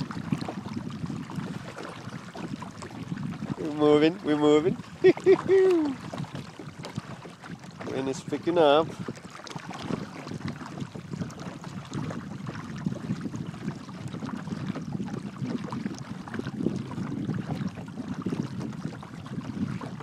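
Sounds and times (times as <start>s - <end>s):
water splashing along a hull: 0.0s - 20.0s
wind buffeting microphone: 0.0s - 20.0s.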